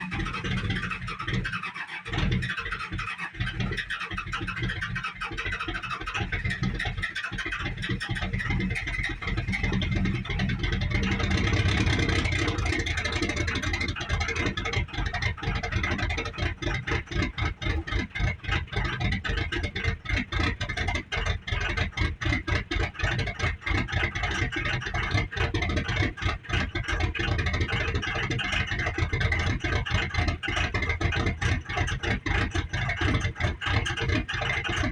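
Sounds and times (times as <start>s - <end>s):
diesel engine clattering: 0.0s - 34.9s.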